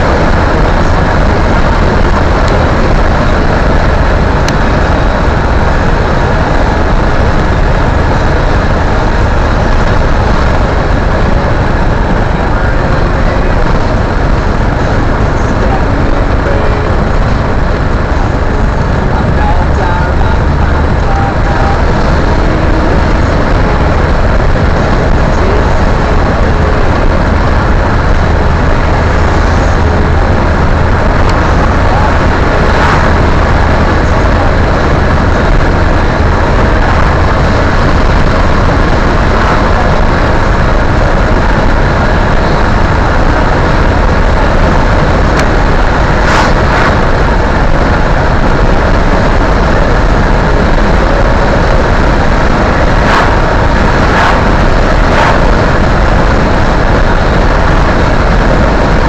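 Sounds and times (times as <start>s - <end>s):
car cabin engine and road rumble: 0.0s - 59.0s.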